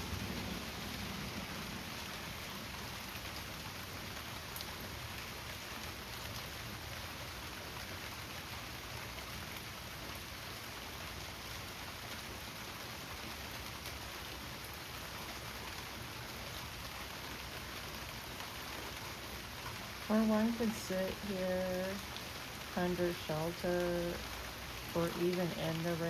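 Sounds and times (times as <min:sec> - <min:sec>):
heavy rain on concrete: 0:00.0 - 0:26.0.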